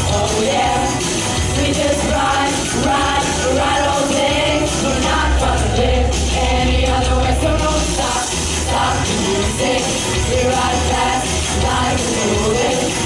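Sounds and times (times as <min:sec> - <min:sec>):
live pop song with singing: 0:00.0 - 0:13.0
steady bass line: 0:00.0 - 0:13.0.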